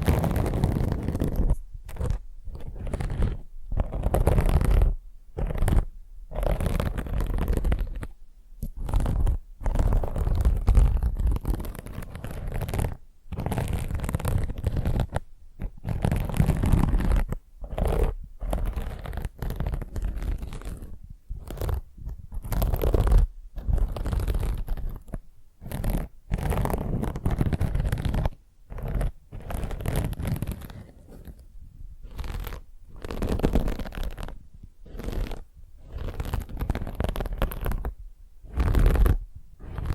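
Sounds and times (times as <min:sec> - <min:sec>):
fingernails scratching scouring pad: 0:00.0 - 0:31.4, 0:32.0 - 0:39.9.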